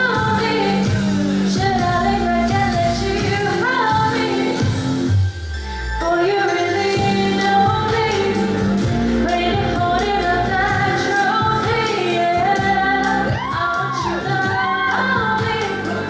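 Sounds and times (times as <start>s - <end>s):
woman singing: 0.0s - 5.0s, 6.0s - 16.0s
live pop band: 0.0s - 16.0s.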